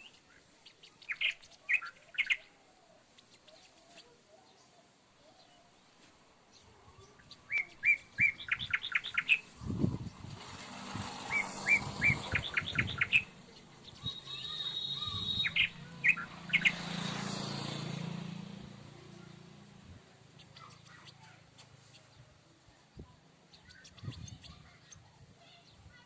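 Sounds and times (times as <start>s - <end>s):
small bird chirping: 0.0s - 5.8s, 6.5s - 18.4s, 20.1s - 26.0s.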